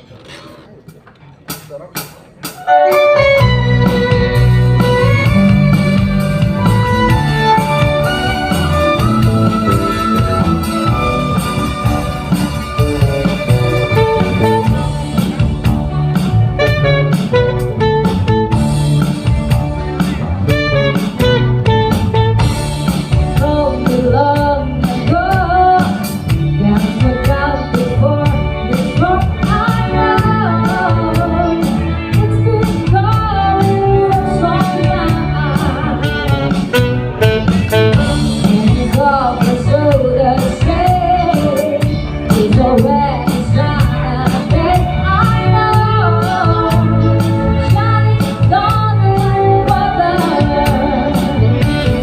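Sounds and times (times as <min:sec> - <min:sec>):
drum kit beat: 0:00.9 - 0:52.0
rock band playing: 0:00.9 - 0:52.0
guitar: 0:02.4 - 0:52.0
bass guitar: 0:02.6 - 0:52.0.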